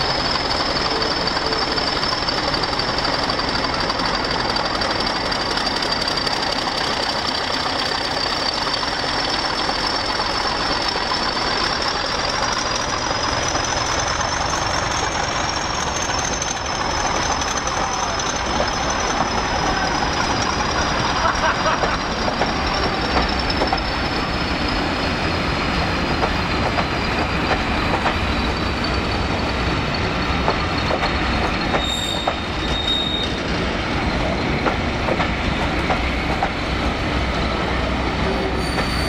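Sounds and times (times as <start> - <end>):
train engine idling: 0.0 - 39.0.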